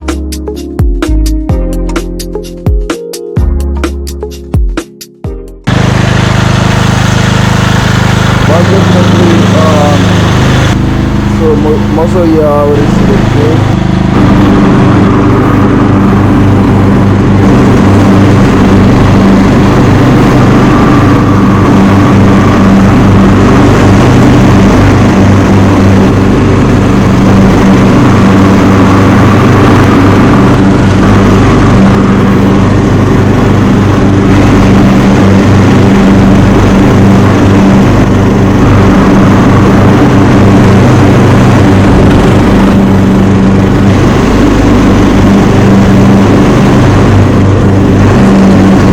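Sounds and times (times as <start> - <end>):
riding lawn mower engine running: 5.7 - 48.9.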